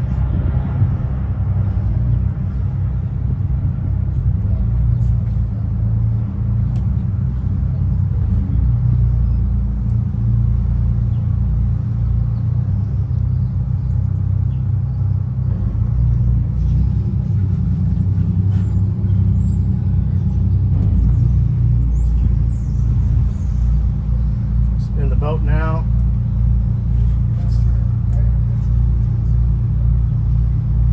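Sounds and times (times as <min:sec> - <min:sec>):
boat engines rumbling: 0:00.0 - 0:30.9.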